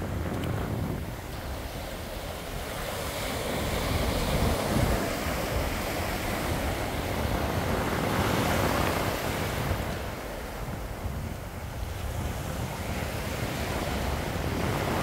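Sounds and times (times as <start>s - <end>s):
waves breaking on sandy shore: 0.0s - 15.0s
wind rumbling on microphone: 0.0s - 15.0s.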